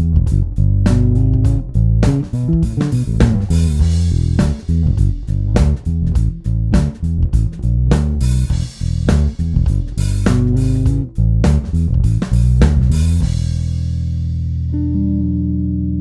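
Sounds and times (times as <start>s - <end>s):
electric bass guitar notes: 0.0s - 16.0s.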